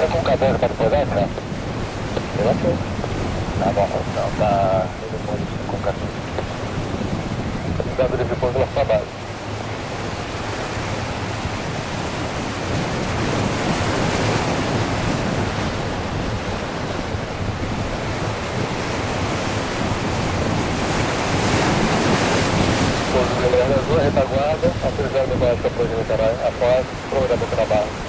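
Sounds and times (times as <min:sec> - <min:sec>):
jet engine rushing: 0:00.0 - 0:28.0.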